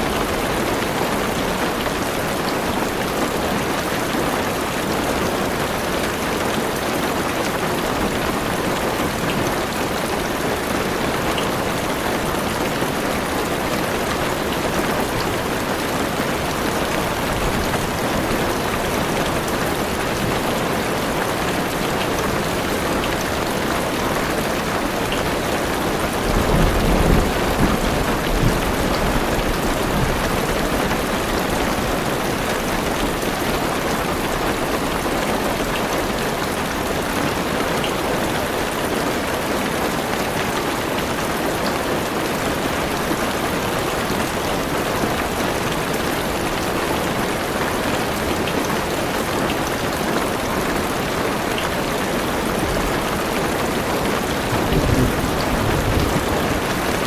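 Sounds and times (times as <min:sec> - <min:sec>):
heavy rain on a car roof: 0:00.0 - 0:57.0.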